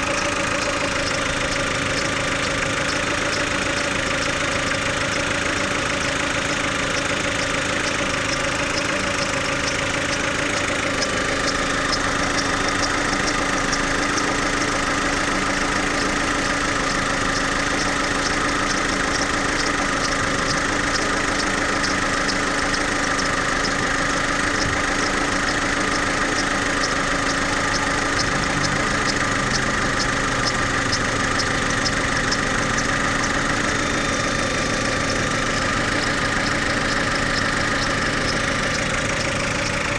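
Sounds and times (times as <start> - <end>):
car engine idling: 0.0 - 39.9
fast regular high ticking: 0.0 - 39.9.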